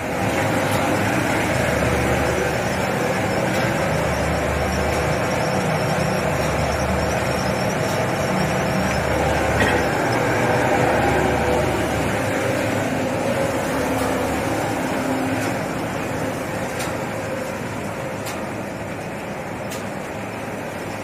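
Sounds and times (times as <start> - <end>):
machinery droning: 0.0 - 21.0.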